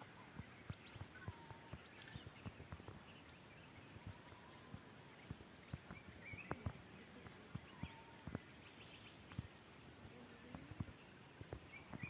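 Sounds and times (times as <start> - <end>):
faint birdsong: 0.0 - 12.0
low hiss: 0.0 - 12.0.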